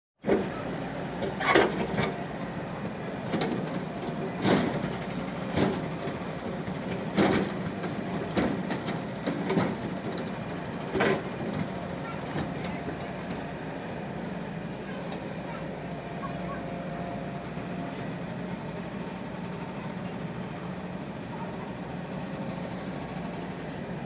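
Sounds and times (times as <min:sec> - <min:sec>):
excavator running: 0:00.2 - 0:24.0.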